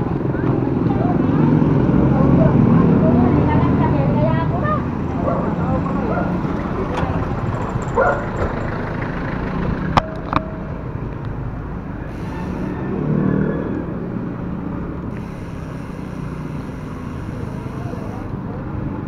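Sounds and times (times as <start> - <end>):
road traffic noise: 0.0 - 19.0
vehicle passing: 0.0 - 19.0.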